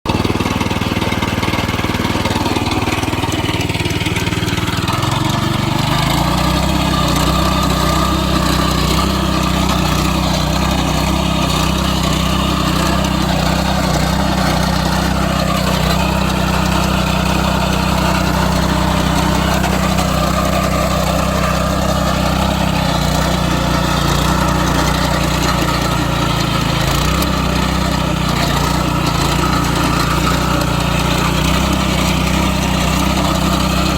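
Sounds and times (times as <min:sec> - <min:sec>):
small petrol engine running: 0:00.0 - 0:33.9.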